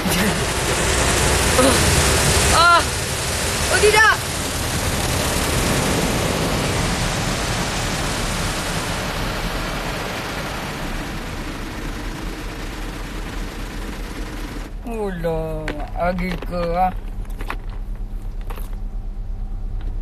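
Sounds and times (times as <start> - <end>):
car wash water jets hissing: 0.0 - 20.0.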